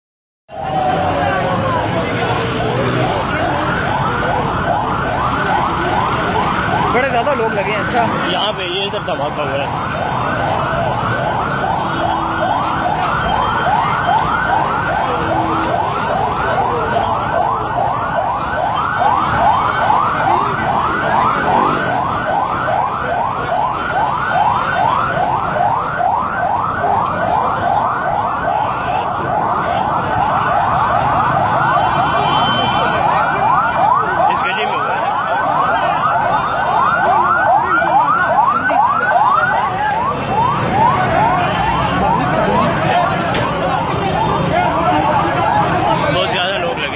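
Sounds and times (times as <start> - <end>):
siren in fast yelp mode: 0.5 - 46.9.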